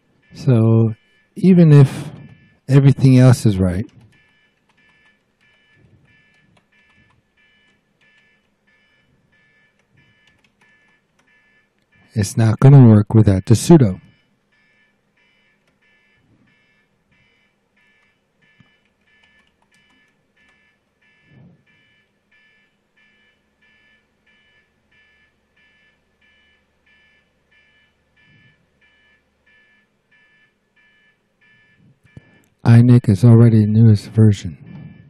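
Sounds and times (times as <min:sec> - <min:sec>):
faint high electronic beeping: 0:00.2 - 0:35.0.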